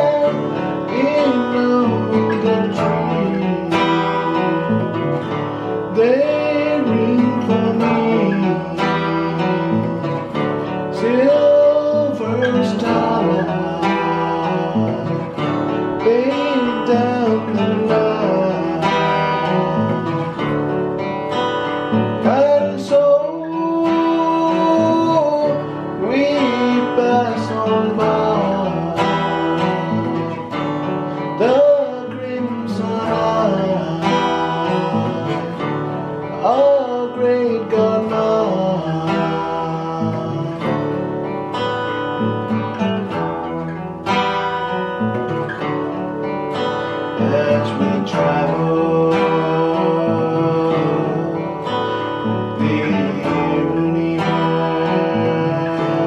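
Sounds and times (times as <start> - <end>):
acoustic guitars playing: 0.0 - 56.0
man singing: 0.0 - 56.0.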